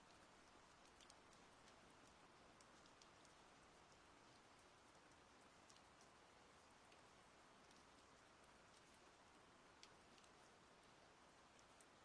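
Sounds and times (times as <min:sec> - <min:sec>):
faint rain: 0:00.0 - 0:12.0.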